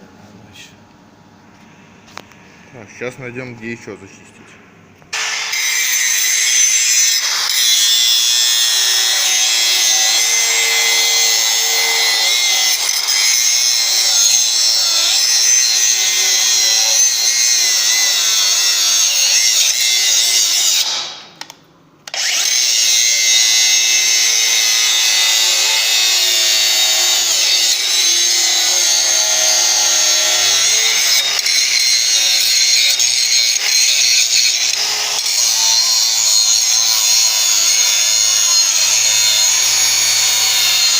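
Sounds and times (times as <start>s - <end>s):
angle grinder grinding steel: 5.1s - 21.1s, 22.1s - 40.9s.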